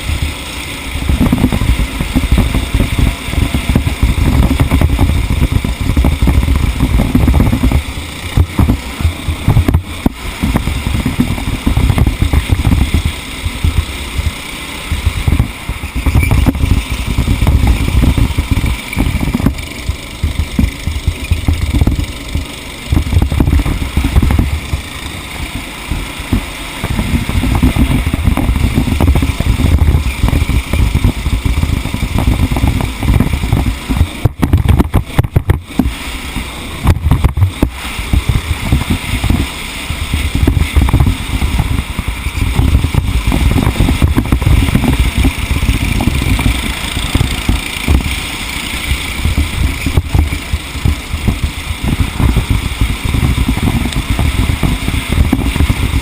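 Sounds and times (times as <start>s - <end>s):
racing engine rumbling: 0.0s - 56.0s.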